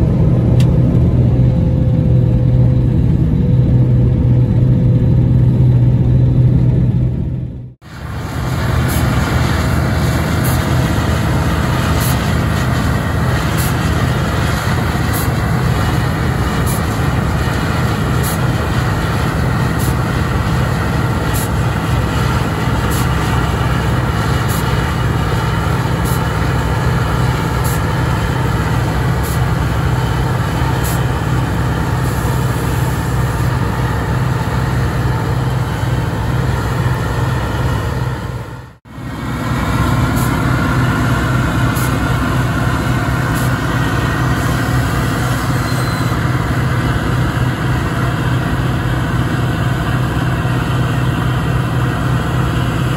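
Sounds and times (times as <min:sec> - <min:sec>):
combine harvester engine under load: 0:00.0 - 0:52.9
threshing machinery whirr and rattle: 0:00.0 - 0:52.9.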